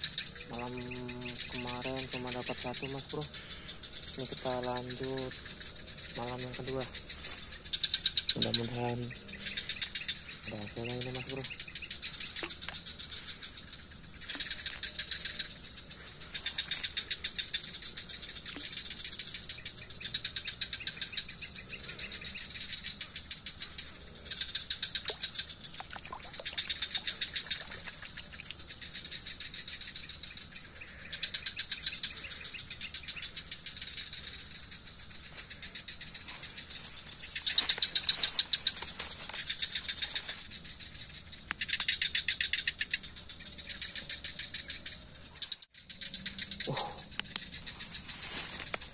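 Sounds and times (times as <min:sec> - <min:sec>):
night insects buzzing and chirping: 0:00.0 - 0:48.9.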